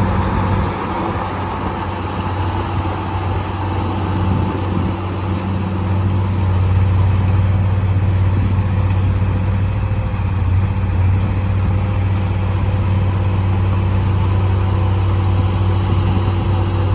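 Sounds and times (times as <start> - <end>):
heavy diesel engine droning: 0.0 - 16.9.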